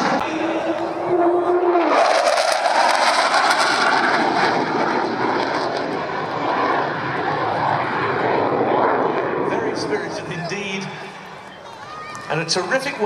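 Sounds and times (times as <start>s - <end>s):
jet fighter roaring past: 0.0s - 13.0s.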